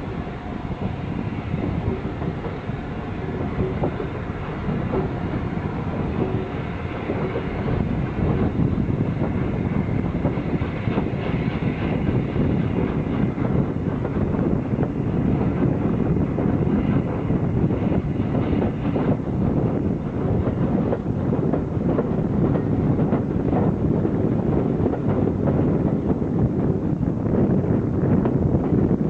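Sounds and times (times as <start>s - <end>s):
train wheels clicking over rail joints: 1.6s - 26.5s.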